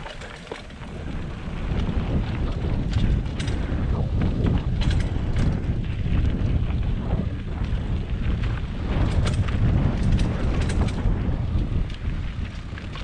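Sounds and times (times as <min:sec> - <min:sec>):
bike clattering over bumps: 0:00.0 - 0:13.0
wind buffeting microphone: 0:00.0 - 0:13.0.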